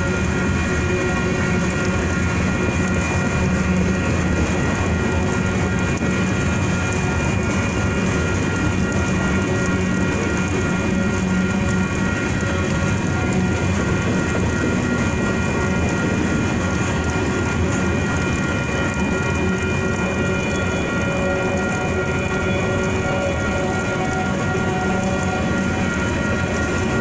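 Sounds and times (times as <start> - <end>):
steady high-pitched tones: 0.0 - 27.0
train wheels clattering over rails: 0.0 - 27.0.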